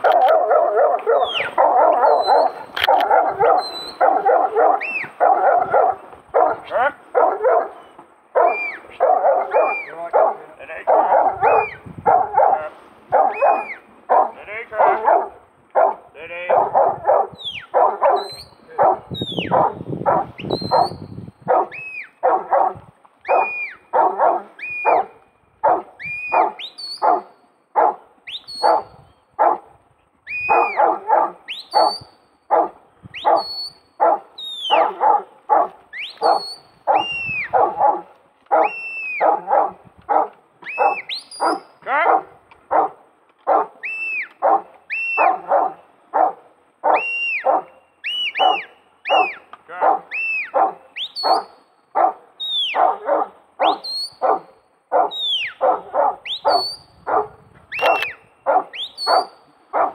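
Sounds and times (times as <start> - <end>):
dog barking: 0.0 - 7.8, 8.4 - 20.9, 21.5 - 28.0, 28.6 - 29.6, 30.5 - 43.8, 44.4 - 59.9.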